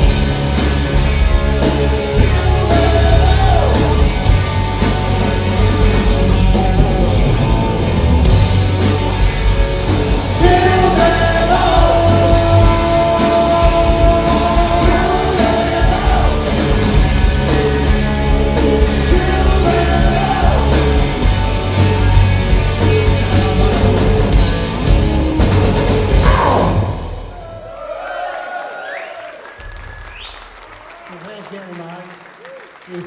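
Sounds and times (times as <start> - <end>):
live rock band playing: 0.0 - 27.4.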